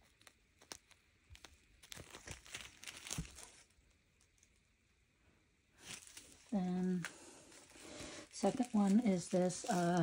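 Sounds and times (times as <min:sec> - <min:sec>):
plastic bags crinkling: 0:00.0 - 0:04.6, 0:05.8 - 0:10.0.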